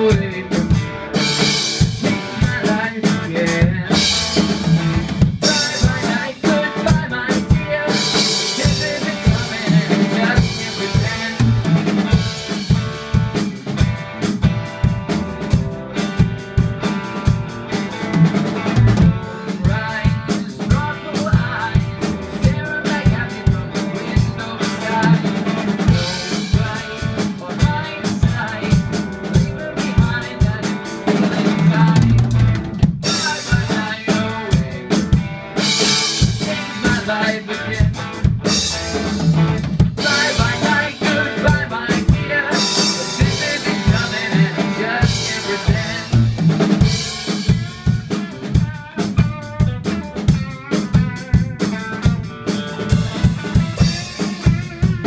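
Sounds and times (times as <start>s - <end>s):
bass and guitar: 0.0s - 55.0s
rock drum beat: 0.0s - 55.0s.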